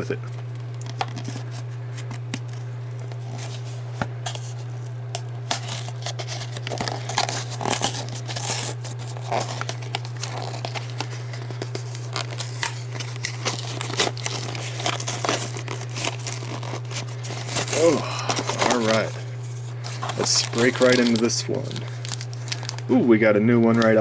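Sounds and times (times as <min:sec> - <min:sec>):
steady low hum: 0:00.0 - 0:24.0
packaging tearing and crinkling: 0:00.6 - 0:22.9.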